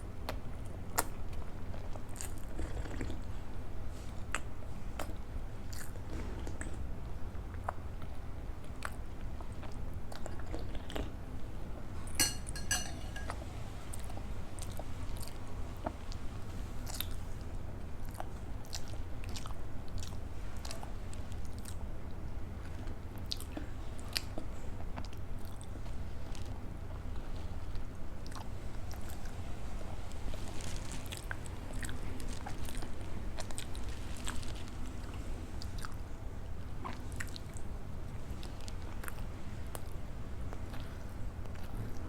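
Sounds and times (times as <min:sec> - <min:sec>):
chewing and wet mouth sounds: 0:00.1 - 0:11.5, 0:12.1 - 0:42.0.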